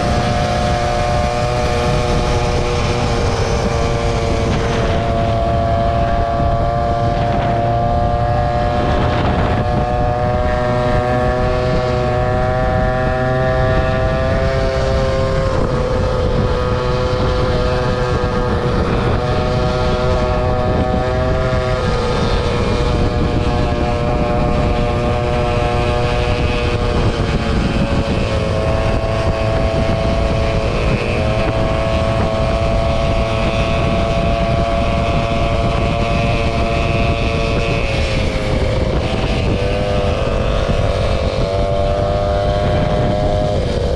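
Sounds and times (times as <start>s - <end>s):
scooter engine running: 0.0s - 43.9s
wind rumble on microphone: 0.0s - 43.9s.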